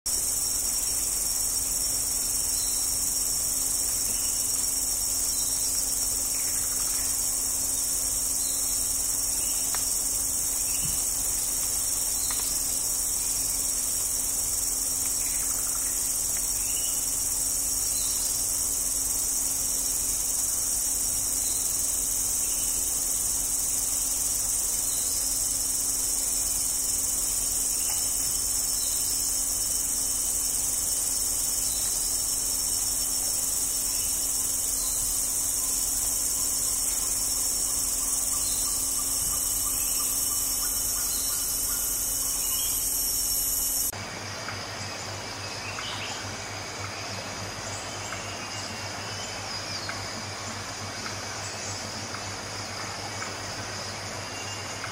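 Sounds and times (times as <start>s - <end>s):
insect chorus drone: 0.1s - 54.9s.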